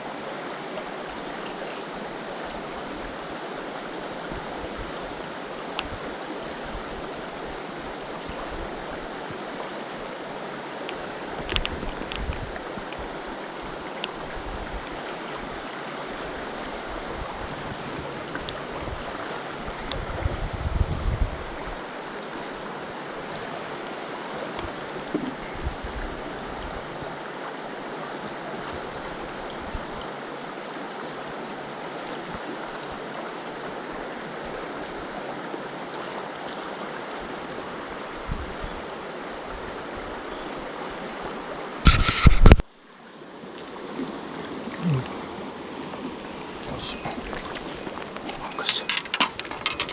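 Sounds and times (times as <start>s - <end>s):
stream water rushing: 0.0s - 49.9s.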